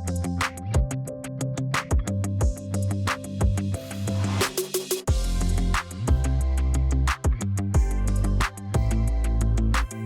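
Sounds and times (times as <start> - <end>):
electronic music with deep bass: 0.0 - 4.5, 5.1 - 10.0.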